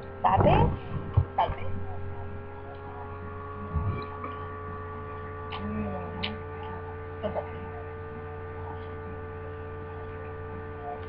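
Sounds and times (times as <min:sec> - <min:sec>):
electrical mains hum: 0:00.0 - 0:11.0
soft wavering low sound: 0:00.0 - 0:11.0.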